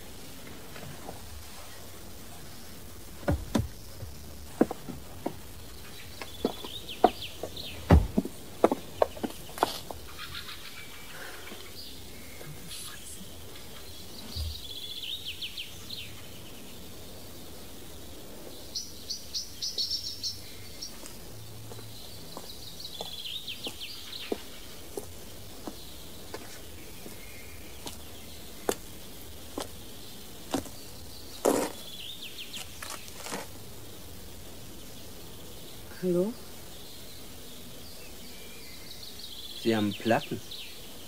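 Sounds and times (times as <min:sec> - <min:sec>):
steady background hiss: 0:00.0 - 0:41.0
birds chirping in trills: 0:02.1 - 0:41.0.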